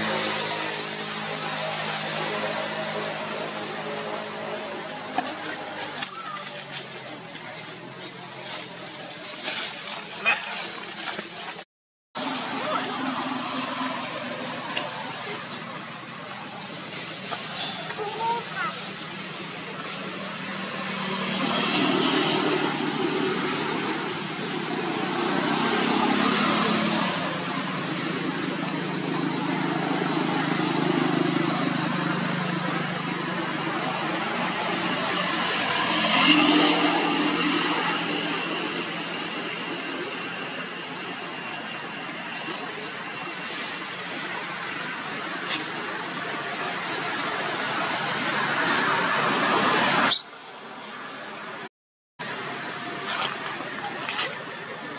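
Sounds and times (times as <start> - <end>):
broad rushing noise: 0.0 - 54.9.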